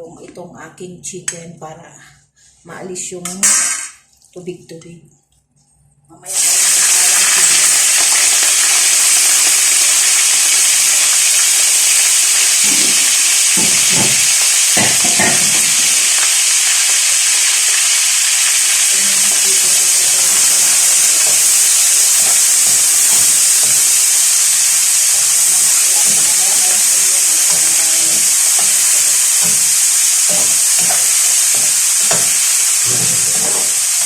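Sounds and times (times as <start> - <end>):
chicken sizzling in a pan: 6.2 - 34.0.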